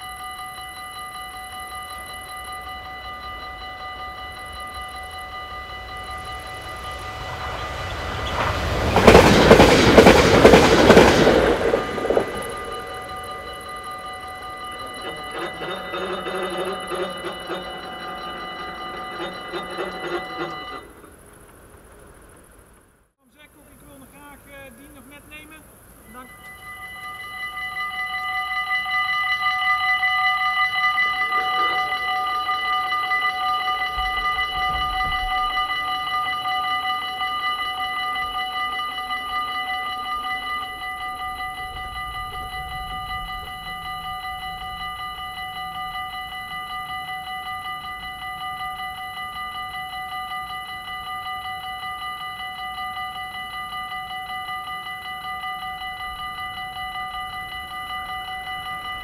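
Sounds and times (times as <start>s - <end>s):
level crossing warning bell: 0.0s - 59.0s.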